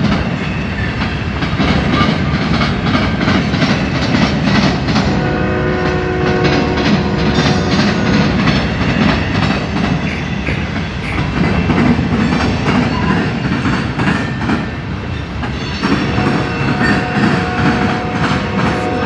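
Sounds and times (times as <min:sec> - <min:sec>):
train rumble: 0:00.0 - 0:19.0
train wheels clacking over rail joints: 0:00.0 - 0:19.0.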